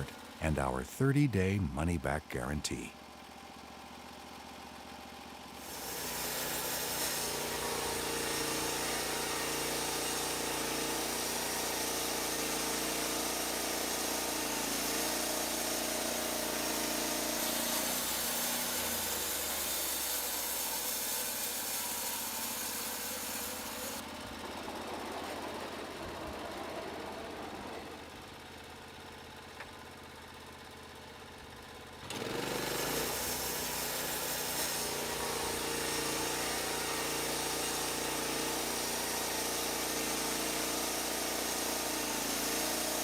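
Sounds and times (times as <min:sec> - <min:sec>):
sawmill engine running: 0:05.6 - 0:29.3, 0:32.0 - 0:43.0.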